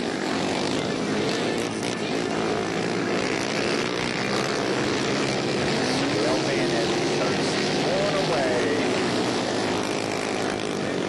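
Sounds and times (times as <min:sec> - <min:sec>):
misfiring quad engine: 0:00.0 - 0:11.0
racing quad engines at full throttle: 0:00.0 - 0:11.0.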